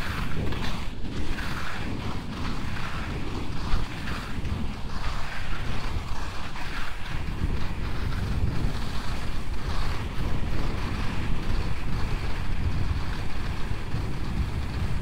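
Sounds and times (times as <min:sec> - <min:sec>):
skis swishing over snow: 0:00.0 - 0:15.0
wind buffeting microphone: 0:00.0 - 0:15.0.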